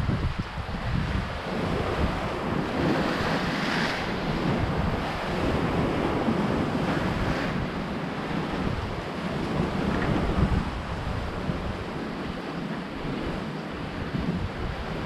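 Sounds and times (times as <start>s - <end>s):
sea surf: 0.0s - 15.0s
wind buffeting microphone: 0.0s - 15.0s.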